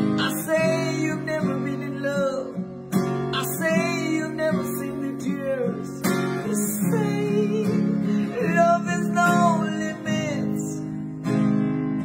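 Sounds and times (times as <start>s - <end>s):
man singing slow song: 0.0s - 11.0s
strummed acoustic guitar: 0.0s - 12.0s.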